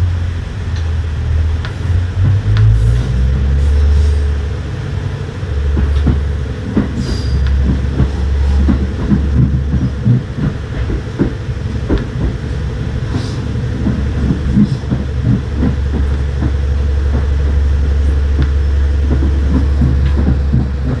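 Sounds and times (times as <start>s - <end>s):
diesel train engine drone: 0.0s - 21.0s
wheels clicking over rail joints: 0.0s - 21.0s.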